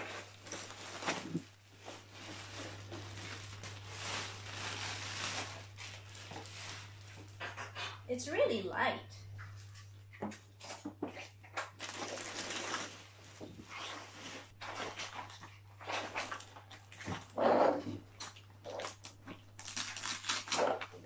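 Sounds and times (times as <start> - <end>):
plastic bag rustling and crinkling: 0.0 - 8.1, 10.6 - 18.0, 18.7 - 21.0.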